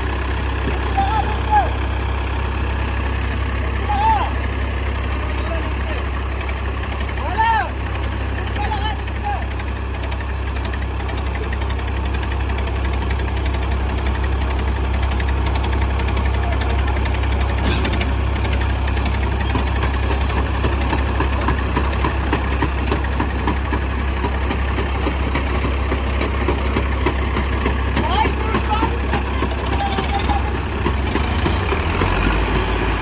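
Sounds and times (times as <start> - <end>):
diesel tractor engines droning: 0.0 - 33.0.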